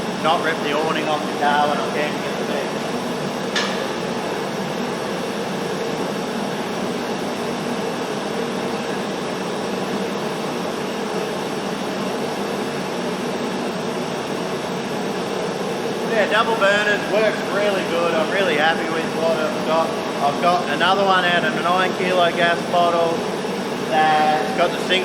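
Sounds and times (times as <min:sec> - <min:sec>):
gas forge roaring: 0:00.0 - 0:25.0.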